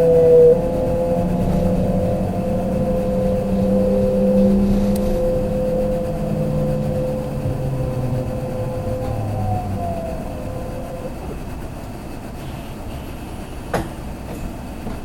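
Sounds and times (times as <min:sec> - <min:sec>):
train motor whine: 0:00.0 - 0:15.0
train running noise: 0:00.0 - 0:15.0.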